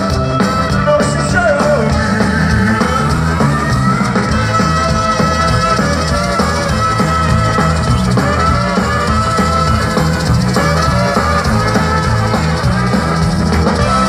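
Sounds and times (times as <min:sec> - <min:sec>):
brass band playing rock song: 0:00.0 - 0:14.0
drum kit: 0:00.0 - 0:14.0
electric guitars: 0:00.0 - 0:14.0.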